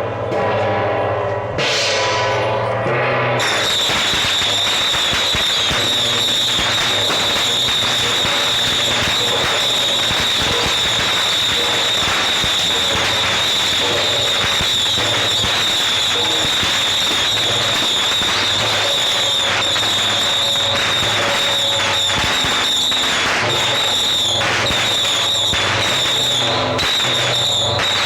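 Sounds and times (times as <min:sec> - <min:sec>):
firecrackers crackling: 0:01.6 - 0:28.0.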